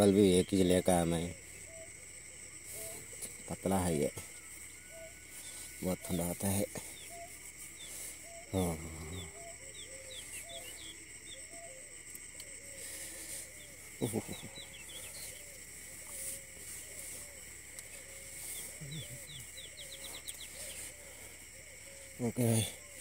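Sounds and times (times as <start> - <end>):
high insect-like drone: 0.0 - 23.0
shorter lower calls: 1.3 - 23.0.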